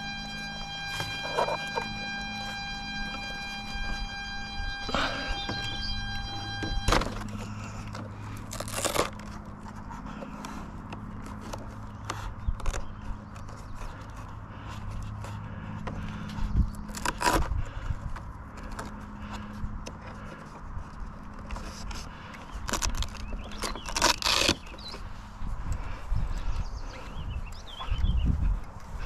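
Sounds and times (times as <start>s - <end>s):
battery scraping and rustling: 0.0s - 26.0s
electric hum of model airplane: 0.0s - 29.0s.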